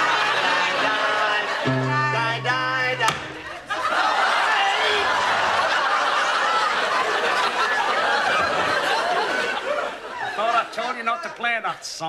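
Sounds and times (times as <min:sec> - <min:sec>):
studio audience laughing: 0:00.0 - 0:10.7.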